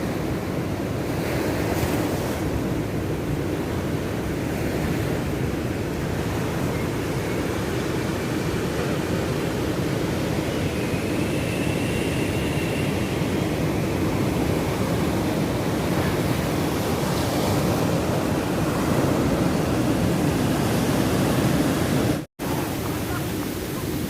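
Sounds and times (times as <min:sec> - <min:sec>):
ocean surf rushing: 0:00.0 - 0:24.0.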